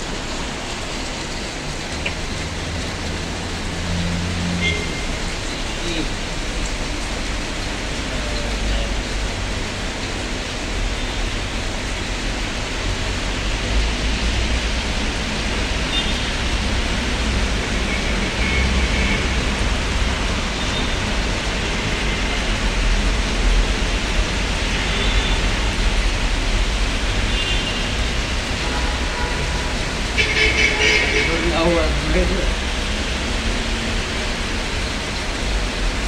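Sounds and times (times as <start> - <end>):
heavy rain on flooded street: 0.0 - 36.0.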